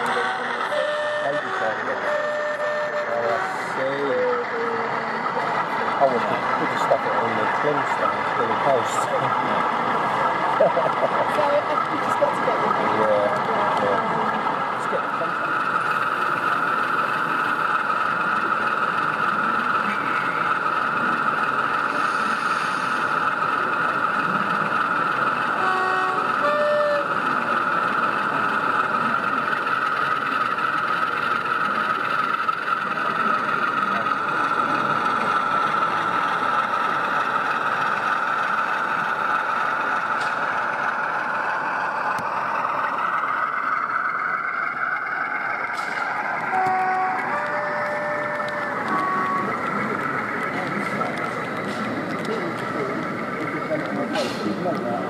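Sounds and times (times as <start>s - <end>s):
model locomotive diesel engine sound: 0.0s - 55.0s.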